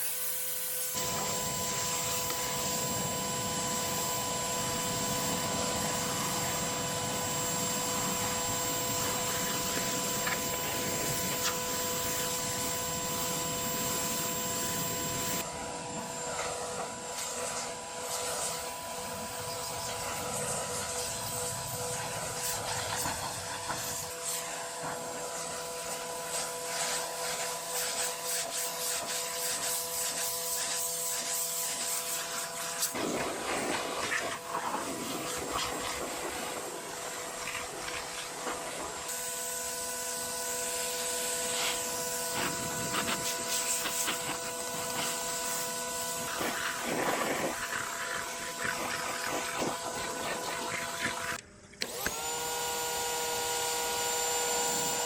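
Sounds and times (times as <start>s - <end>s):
pressure washer spray hissing: 0.0s - 15.4s, 17.2s - 51.4s
pressure washer machine whine: 0.0s - 55.0s.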